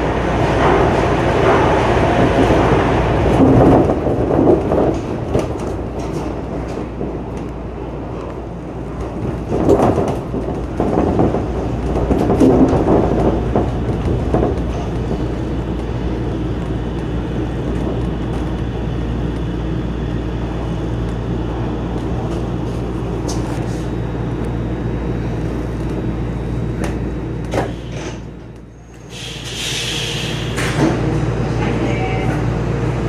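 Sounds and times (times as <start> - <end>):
monorail train rumble: 0.0 - 33.0.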